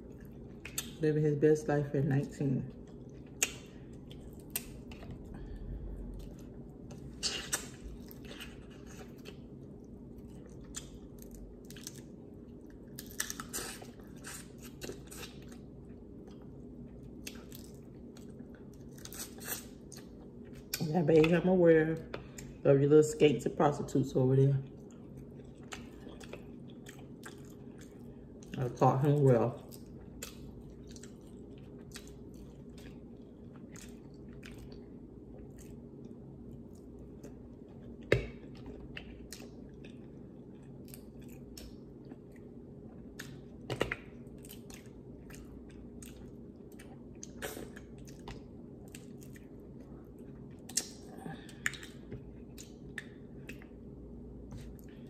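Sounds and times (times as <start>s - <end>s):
chewing and wet mouth sounds: 0.0s - 1.1s, 2.2s - 22.6s, 24.5s - 55.0s
low hum: 0.0s - 55.0s.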